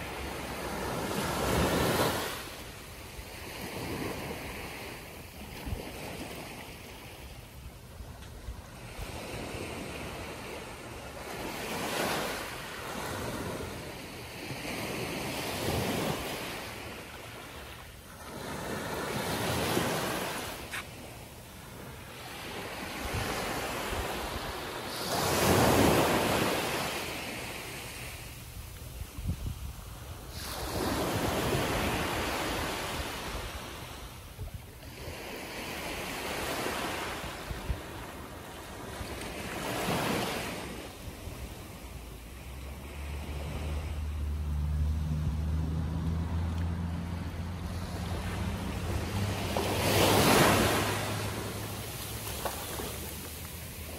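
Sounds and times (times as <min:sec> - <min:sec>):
small waves breaking on sand: 0:00.0 - 0:53.9.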